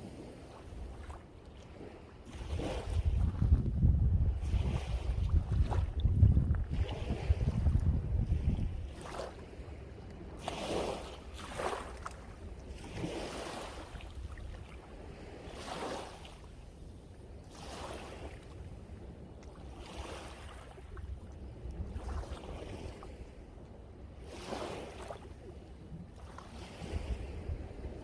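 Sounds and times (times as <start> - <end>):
sea waves breaking on shore: 0.0 - 28.0
wind rumbling on microphone: 0.0 - 28.0.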